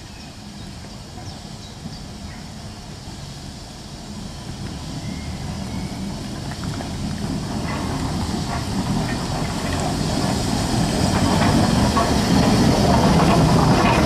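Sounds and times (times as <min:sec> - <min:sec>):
steam locomotive rumbling: 0:00.0 - 0:14.0.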